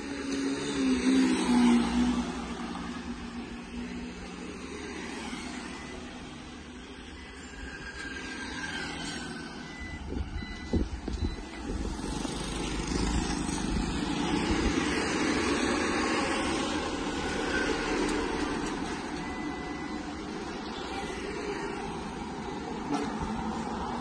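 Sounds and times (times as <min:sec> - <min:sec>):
road traffic going by: 0:00.0 - 0:24.0.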